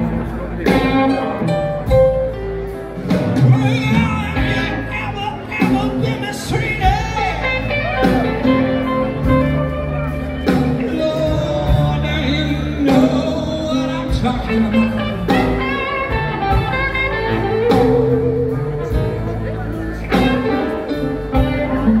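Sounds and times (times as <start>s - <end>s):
live blues band playing: 0.0s - 22.0s
person singing: 3.3s - 22.0s.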